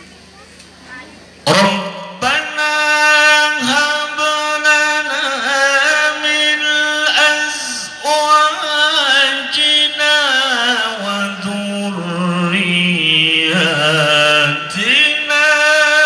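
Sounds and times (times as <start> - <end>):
man chanting into a microphone: 1.5 - 16.0.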